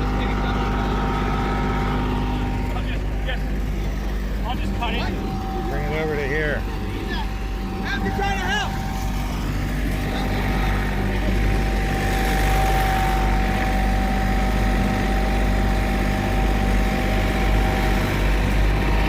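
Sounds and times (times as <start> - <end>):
diesel engine hum: 0.0 - 19.0
steady machine whine: 0.0 - 19.0.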